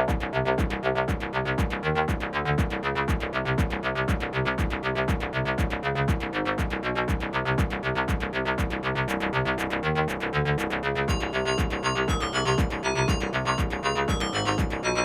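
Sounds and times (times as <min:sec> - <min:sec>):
electronic techno music: 0:00.0 - 0:10.4, 0:11.1 - 0:15.0.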